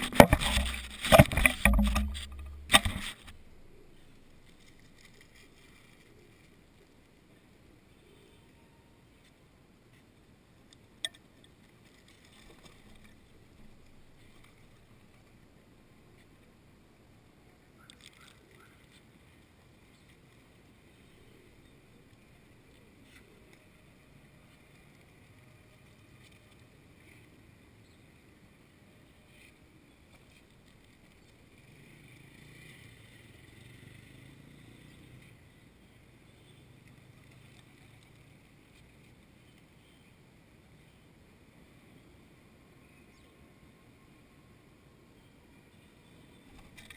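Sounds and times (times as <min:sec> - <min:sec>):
faint low outdoor hum: 0:00.0 - 0:46.9.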